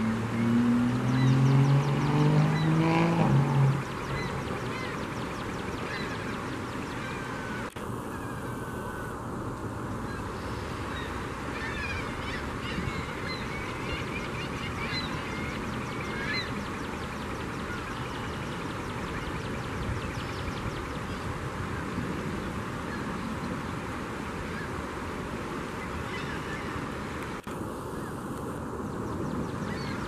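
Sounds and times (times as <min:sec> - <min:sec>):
gulls calling: 0:00.0 - 0:09.3, 0:10.0 - 0:21.9, 0:25.8 - 0:28.3, 0:28.9 - 0:30.0.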